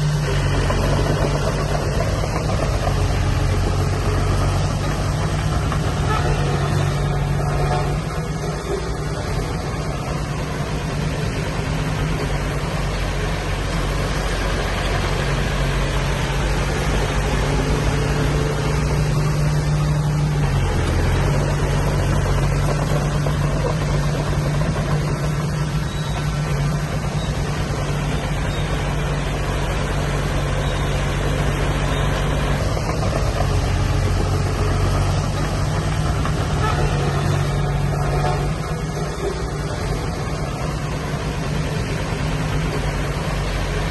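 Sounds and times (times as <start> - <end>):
diesel engine under load: 0.0 - 43.9.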